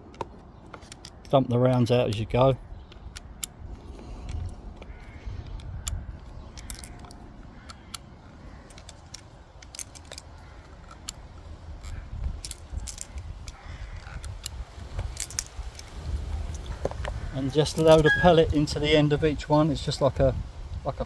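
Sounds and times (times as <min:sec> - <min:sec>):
revolver metal clicks: 0:00.0 - 0:18.7.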